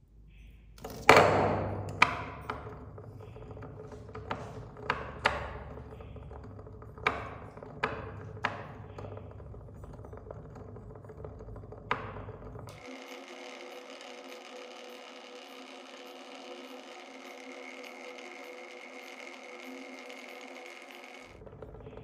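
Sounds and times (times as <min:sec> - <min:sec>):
dishwasher humming: 0:00.8 - 0:22.0
iron ball clanking inside machine: 0:00.8 - 0:22.0.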